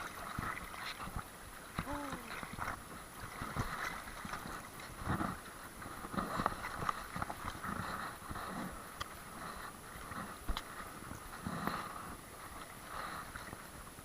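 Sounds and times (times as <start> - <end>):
water gurgling: 0.0 - 13.5.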